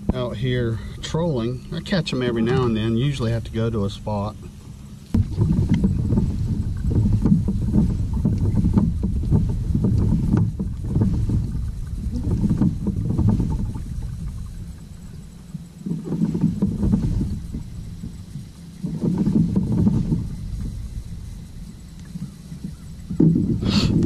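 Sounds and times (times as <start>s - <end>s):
low rumbling wind: 0.0s - 24.0s
water noise around kayak: 0.0s - 24.0s
faint ticks: 4.3s - 24.0s.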